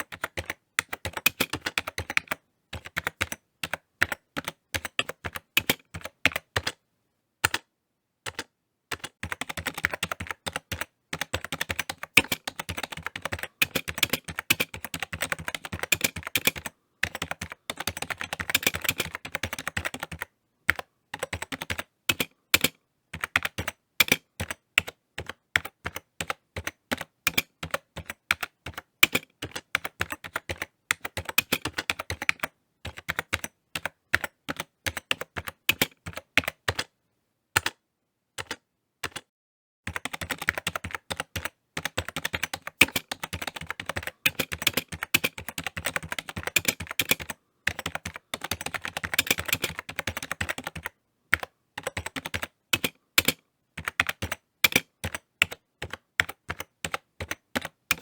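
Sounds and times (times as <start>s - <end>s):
typing on keyboard: 0.0s - 6.8s, 7.4s - 37.0s, 37.6s - 37.8s, 38.4s - 39.3s, 39.9s - 58.0s.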